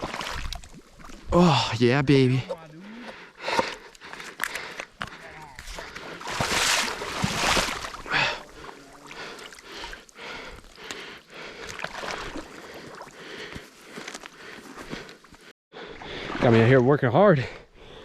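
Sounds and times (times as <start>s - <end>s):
person wading through water: 0.0s - 1.7s, 2.7s - 16.8s.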